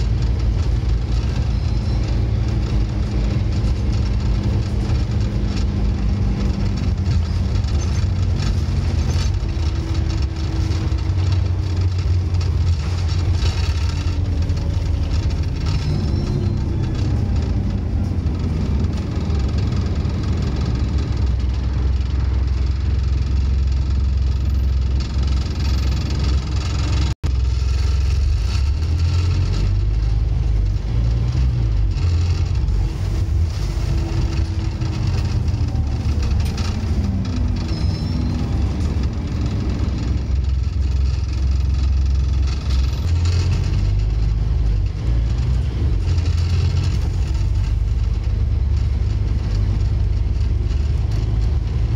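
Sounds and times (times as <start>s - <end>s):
bus engine rumbling: 0.0s - 51.9s.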